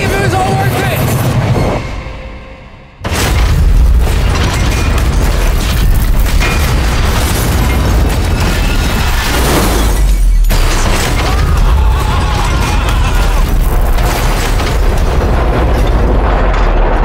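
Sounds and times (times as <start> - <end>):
crash of crumpling metal: 3.1 - 17.0.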